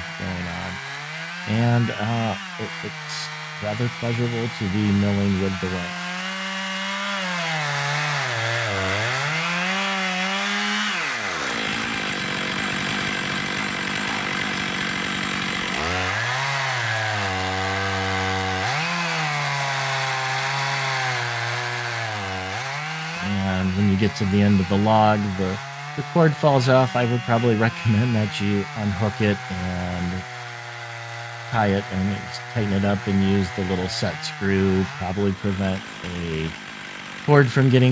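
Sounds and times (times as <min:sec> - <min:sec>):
chainsaw cutting log at full throttle: 0:00.0 - 0:37.9.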